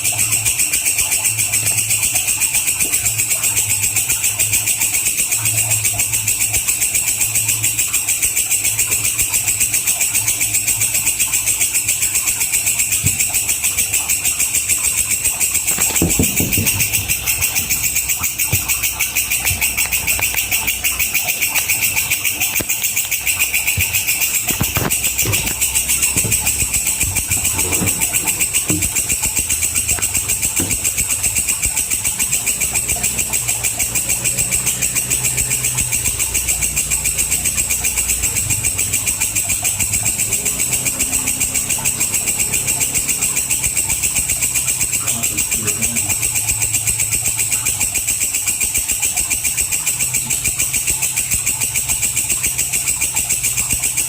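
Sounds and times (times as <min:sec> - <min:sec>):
katydid buzzing: 0:00.2 - 0:53.8.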